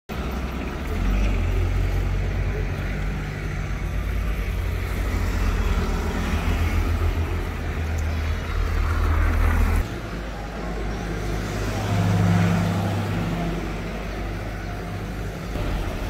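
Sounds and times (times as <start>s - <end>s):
road vehicles rumbling: 0.1s - 16.0s.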